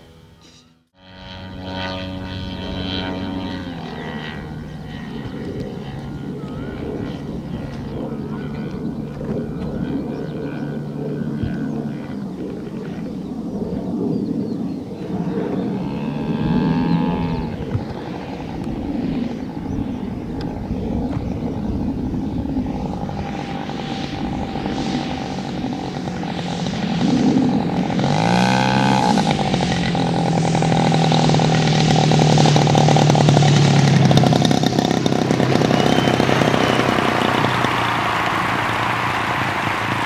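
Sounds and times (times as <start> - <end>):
model plane engine: 0.0 - 40.0.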